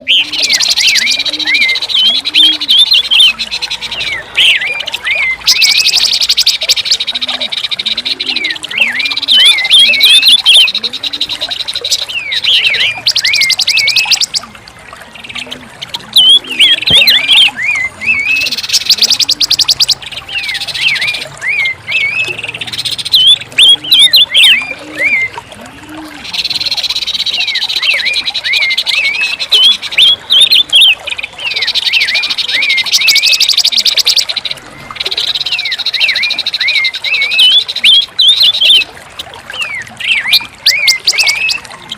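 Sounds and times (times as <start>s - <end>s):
bird chirping whistles and trills: 0.0s - 38.9s, 39.5s - 41.9s.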